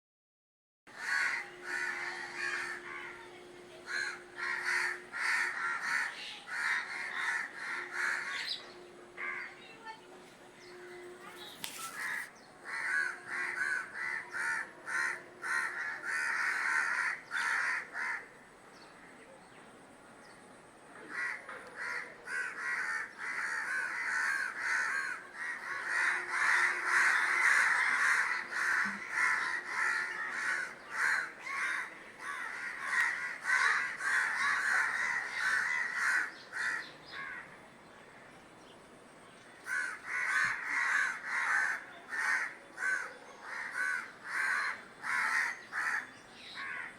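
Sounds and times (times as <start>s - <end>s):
crows cawing: 0.9s - 9.6s, 11.7s - 18.3s, 21.1s - 37.6s, 39.6s - 46.9s.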